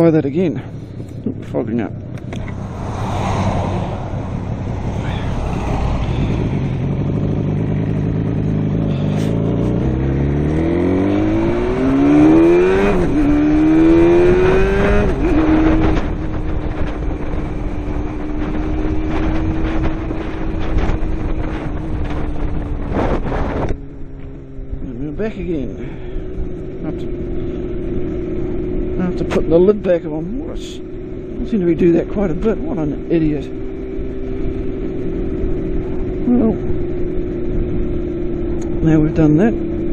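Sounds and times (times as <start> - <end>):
motorcycle engine pulling away: 0.8 - 39.9.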